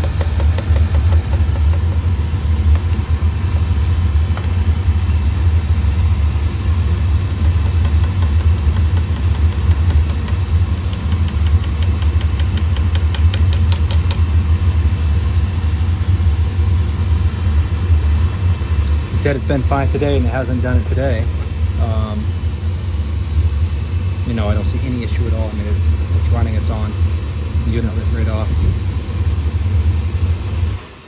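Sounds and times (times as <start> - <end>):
oil burner rumbling: 0.0 - 31.0.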